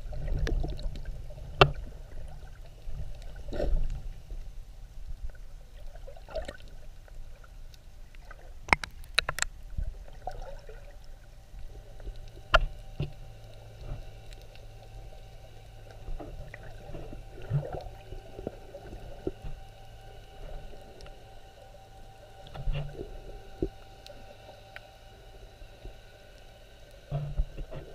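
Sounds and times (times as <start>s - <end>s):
muffled underwater water movement: 0.0s - 27.9s
steady low hum: 0.0s - 27.9s.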